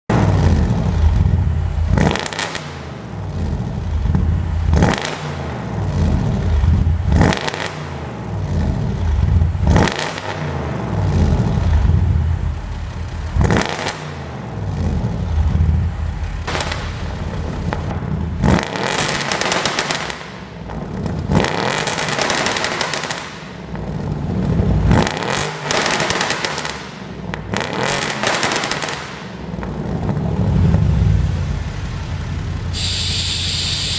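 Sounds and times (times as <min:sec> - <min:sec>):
car engine revving: 0:00.1 - 0:33.9
exhaust pops and crackles: 0:00.1 - 0:33.9.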